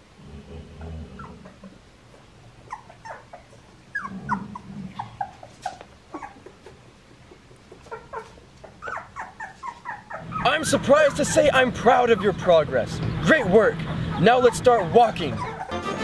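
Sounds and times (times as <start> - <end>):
puppies whimpering: 0.8 - 1.8, 2.6 - 6.7, 7.7 - 16.0.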